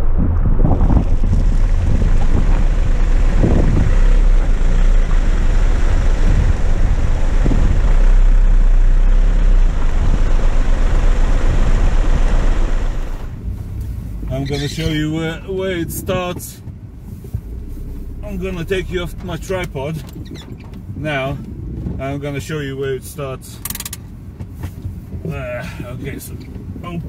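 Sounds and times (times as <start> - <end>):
tyre noise on wet road: 0.0 - 27.0
wind rumble on microphone: 0.0 - 27.0.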